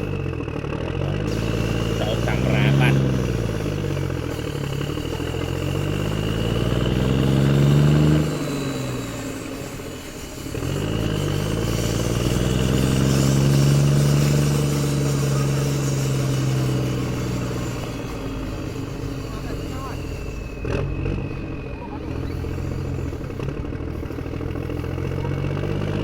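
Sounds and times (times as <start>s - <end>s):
engine revving: 0.0s - 26.0s.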